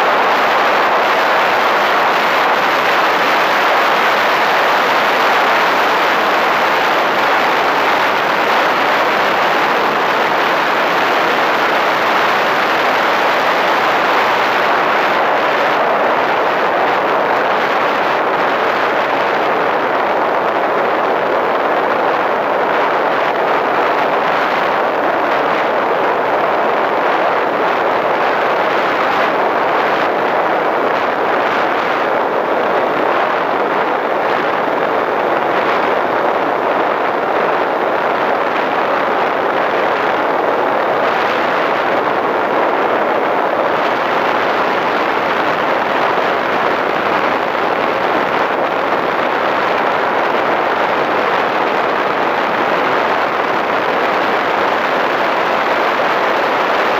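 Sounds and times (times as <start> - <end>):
wind rushing over microphone: 0.0 - 56.9.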